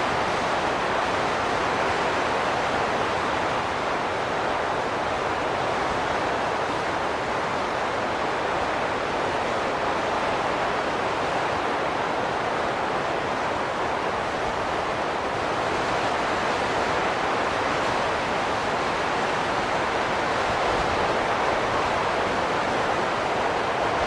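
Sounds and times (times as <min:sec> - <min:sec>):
steady wind noise: 0:00.0 - 0:24.0.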